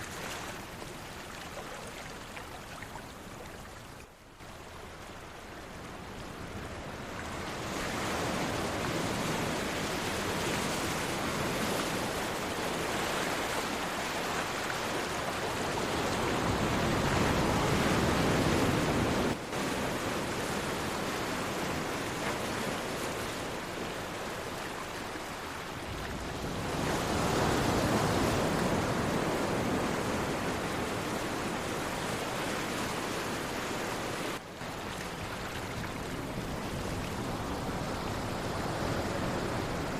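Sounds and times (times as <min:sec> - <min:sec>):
sea waves washing onto shore: 0:00.0 - 0:39.9.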